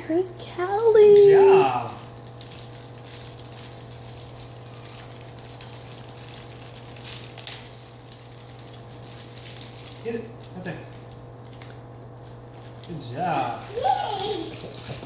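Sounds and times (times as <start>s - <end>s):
packaging crackling and rustling: 1.0s - 15.0s.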